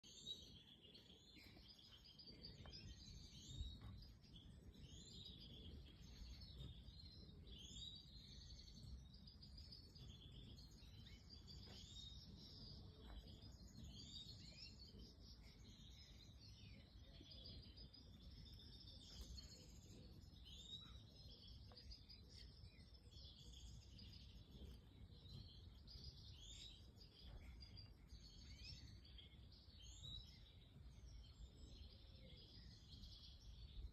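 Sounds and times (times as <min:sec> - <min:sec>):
finches chirping and twittering: 0:00.0 - 0:33.9.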